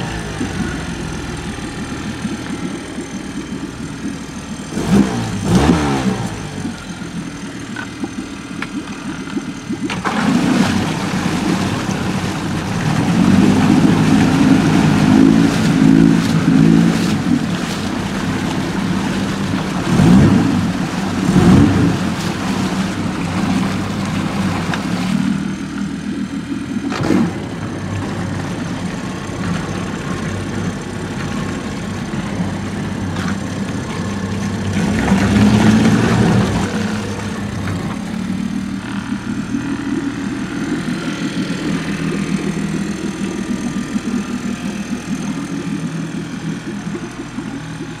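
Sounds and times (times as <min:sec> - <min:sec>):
outboard motor running: 0:00.0 - 0:48.0
propeller churning water: 0:00.0 - 0:48.0.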